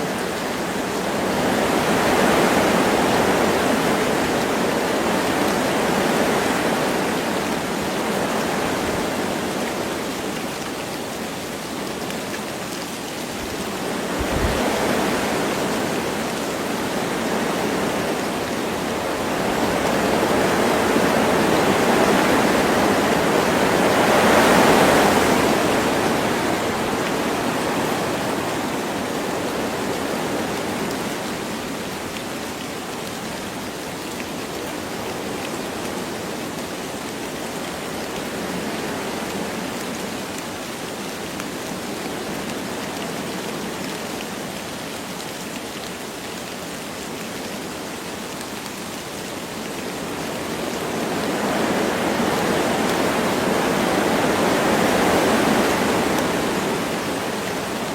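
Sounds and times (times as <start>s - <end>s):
light rain falling: 0.0s - 57.9s
wind through trees: 0.0s - 57.9s.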